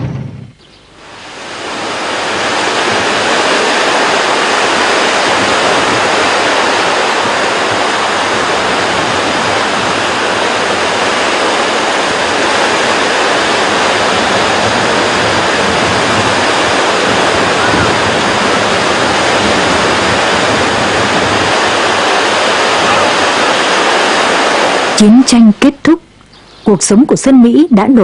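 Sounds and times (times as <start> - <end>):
loud steady rushing noise: 0.0 - 28.0.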